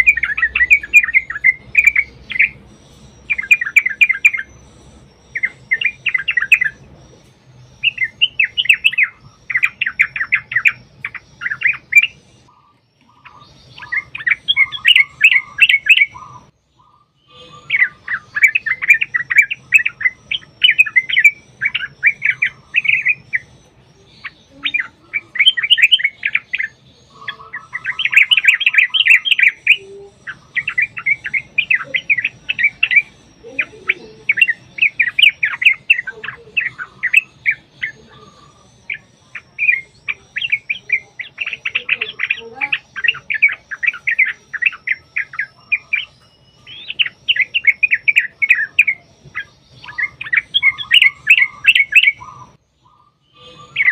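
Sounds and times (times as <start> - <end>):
bulbuls singing bubbling chatter: 0.0 - 53.9.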